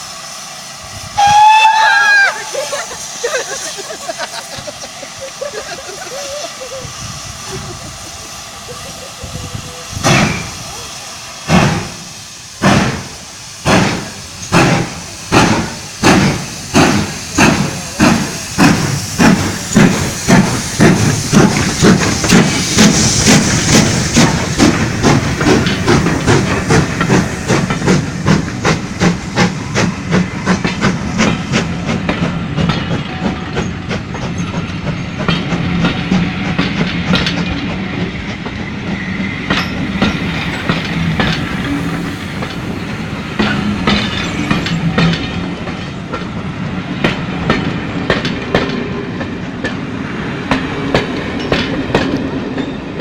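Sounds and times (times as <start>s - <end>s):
steam locomotive exhaust chuffs: 0.0s - 53.0s
coach wheels clicking on rail joints: 1.2s - 53.0s.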